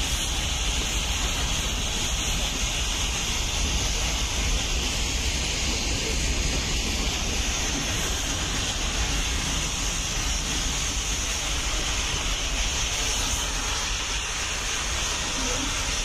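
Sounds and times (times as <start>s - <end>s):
constant hiss: 0.0s - 16.0s
train running with low rumble: 0.0s - 16.0s.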